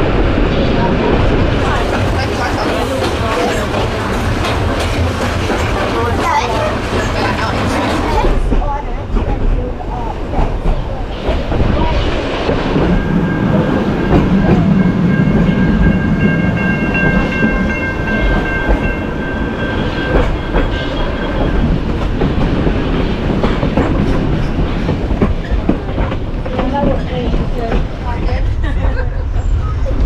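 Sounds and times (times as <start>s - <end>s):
train carriage rumbling and rattling: 0.0s - 30.0s
wheels clacking over rail joints: 1.0s - 28.6s.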